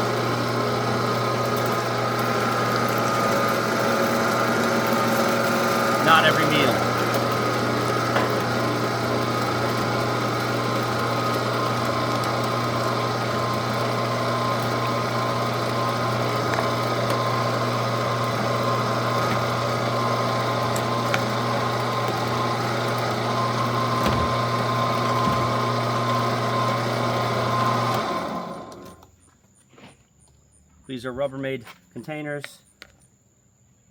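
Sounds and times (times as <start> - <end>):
meat grinder motor humming: 0.0 - 29.0.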